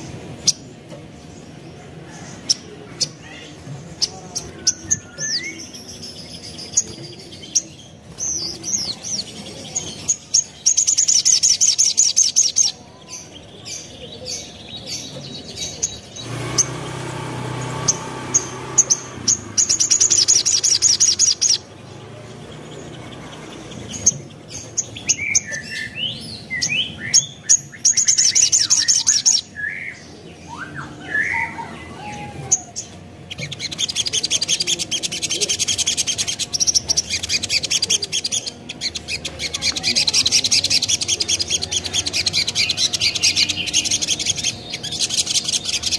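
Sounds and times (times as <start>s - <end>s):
bird singing high trills: 7.6s - 45.9s.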